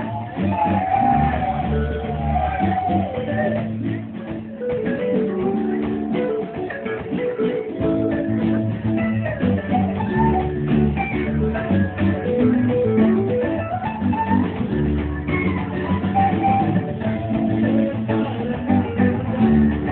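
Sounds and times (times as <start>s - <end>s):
bass notes: 0.0s - 19.9s
electric guitar: 0.0s - 19.9s
steady drum beat: 0.0s - 19.9s.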